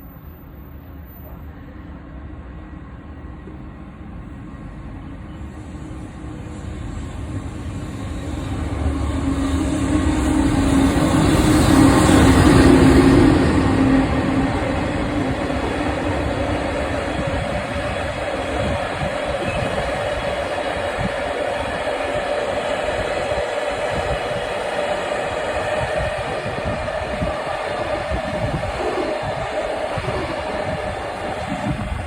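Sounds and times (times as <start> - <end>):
freight train passing: 0.0 - 32.0
locomotive hum: 1.2 - 32.0.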